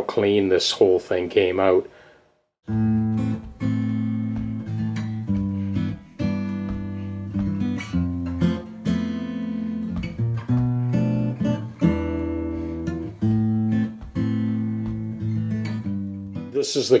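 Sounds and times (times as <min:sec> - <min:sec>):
guitar strumming chords: 0:02.7 - 0:17.0.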